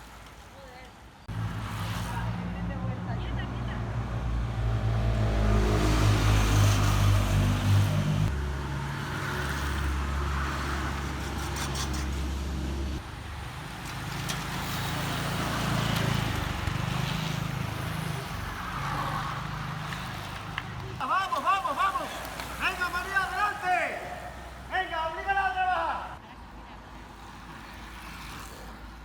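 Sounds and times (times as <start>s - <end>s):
bicycles passing with tyre hiss: 0.0s - 2.7s, 5.0s - 29.0s.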